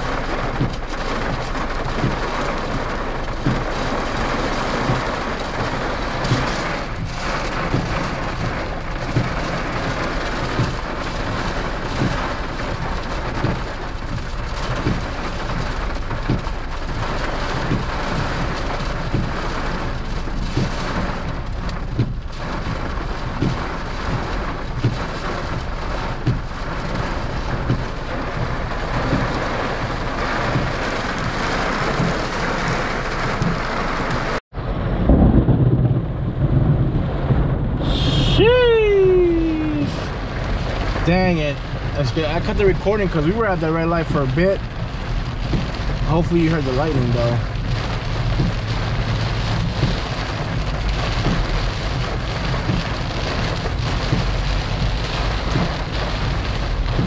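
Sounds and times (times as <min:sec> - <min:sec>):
rain falling on a car: 0:00.0 - 0:57.0.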